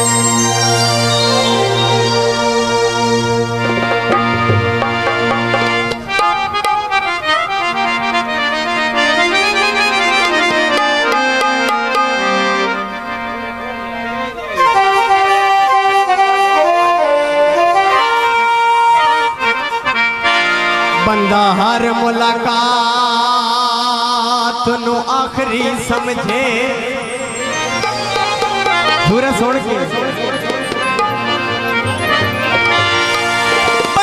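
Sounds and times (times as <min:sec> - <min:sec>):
harmonium melody: 0:00.0 - 0:34.0.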